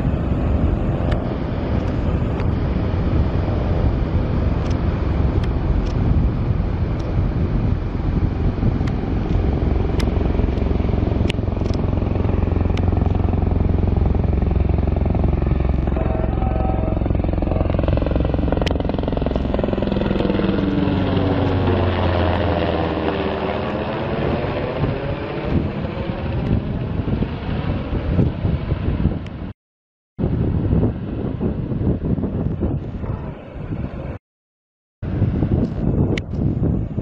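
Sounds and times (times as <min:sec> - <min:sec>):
helicopter flying low overhead: 0:00.0 - 0:29.5, 0:30.2 - 0:34.2, 0:35.0 - 0:37.0.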